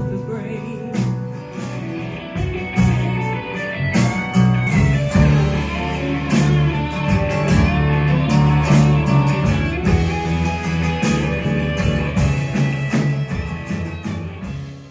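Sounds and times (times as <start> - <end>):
band music with guitar and drums: 0.0 - 14.9.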